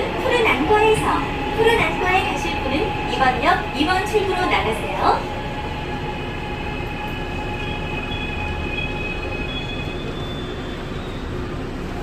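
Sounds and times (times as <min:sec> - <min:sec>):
high-pitched whining tones: 0:00.0 - 0:11.6
subway train rumbling: 0:00.0 - 0:12.0.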